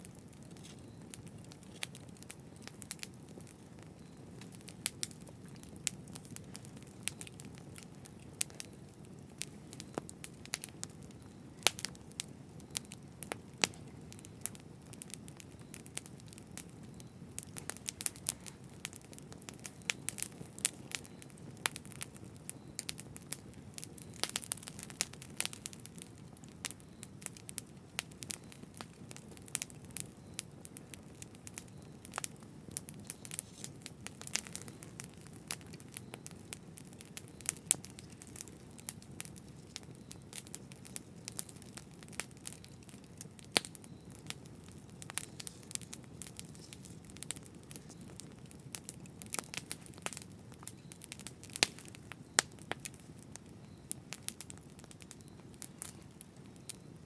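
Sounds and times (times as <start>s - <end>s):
crackles and pops of burning wood: 0.0s - 57.0s
low hiss of flames: 0.0s - 57.0s.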